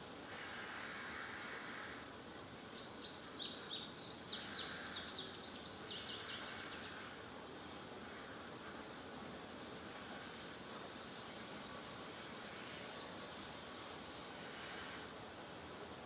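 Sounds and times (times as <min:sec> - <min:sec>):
songbird chirping: 0:00.0 - 0:16.0
steady background hiss: 0:00.0 - 0:16.0.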